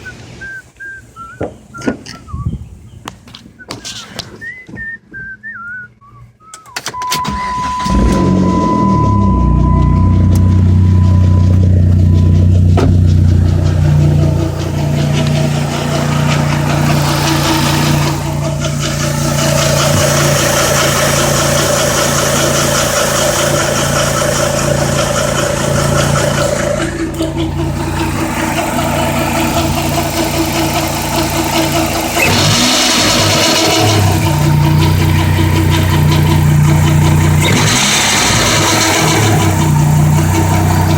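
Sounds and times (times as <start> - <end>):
pulley whine: 6.6 - 40.9
car engine running: 7.2 - 40.9.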